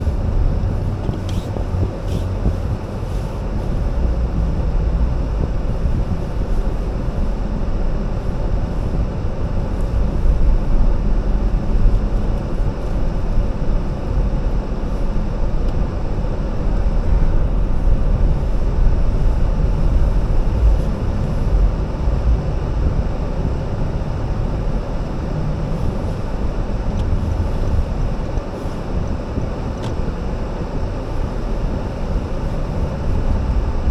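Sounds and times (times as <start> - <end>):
car driving rumble: 0.0 - 33.9.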